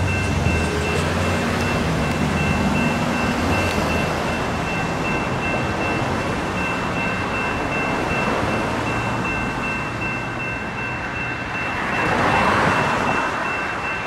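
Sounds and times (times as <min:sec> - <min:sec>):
crossing bell ringing: 0:00.0 - 0:14.0
train wheels on track: 0:00.0 - 0:14.0.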